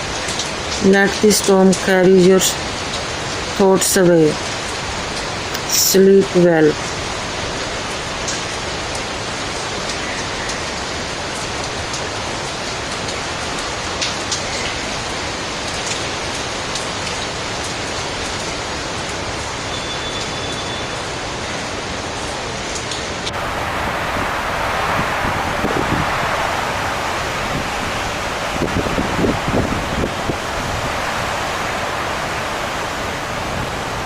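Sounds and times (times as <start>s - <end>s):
heavy rain: 0.0s - 34.0s
wind: 0.0s - 34.0s.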